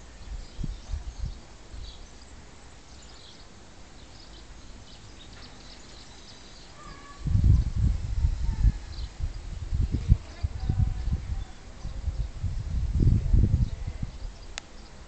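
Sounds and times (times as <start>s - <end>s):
outdoor background noise: 0.0s - 15.0s
small birds chirping: 0.0s - 15.0s.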